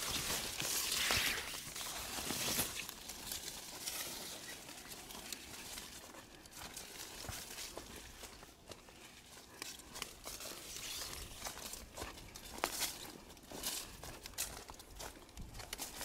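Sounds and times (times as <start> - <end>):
footsteps crunching: 0.0 - 16.0.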